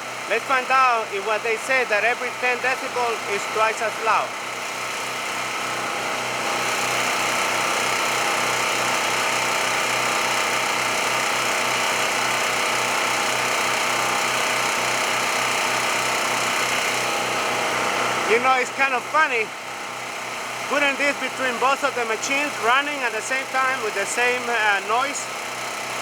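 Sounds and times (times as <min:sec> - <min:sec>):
portable generators running: 0:00.0 - 0:26.0.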